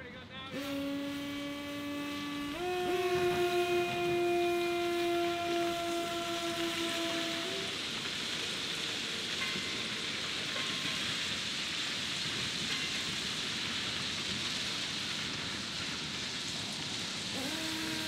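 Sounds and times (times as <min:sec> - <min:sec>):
freight train wheels rushing: 0:00.0 - 0:18.0.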